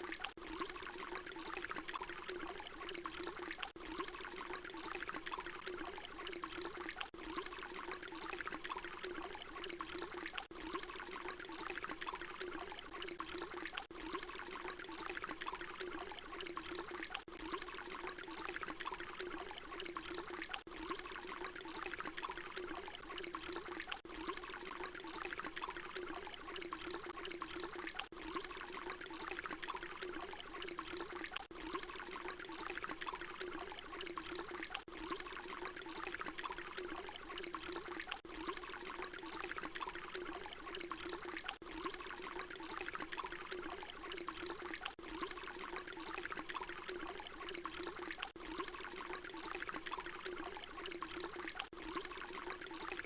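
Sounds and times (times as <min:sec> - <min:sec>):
water pouring: 0:00.0 - 0:53.0.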